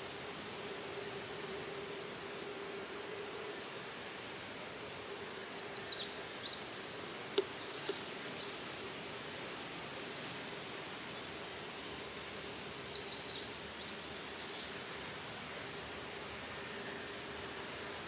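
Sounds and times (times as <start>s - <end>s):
faint constant hum: 0.0s - 18.0s
steady hiss: 0.0s - 18.0s.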